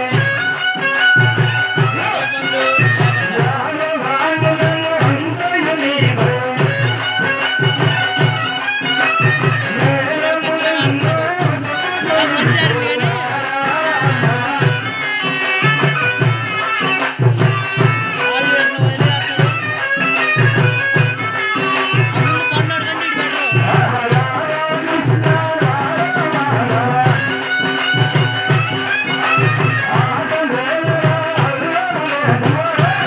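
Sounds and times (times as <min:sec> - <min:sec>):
folk melody: 0:00.0 - 0:30.9
drum beating rhythm: 0:00.0 - 0:33.0.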